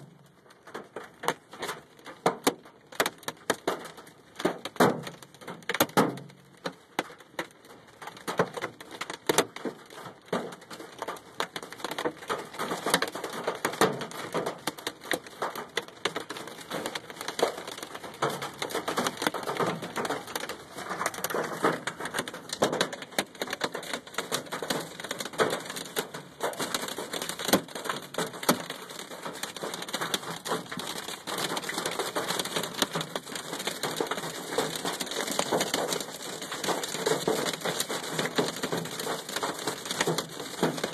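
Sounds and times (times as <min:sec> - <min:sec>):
hail pounding on truck: 0:00.0 - 0:40.9.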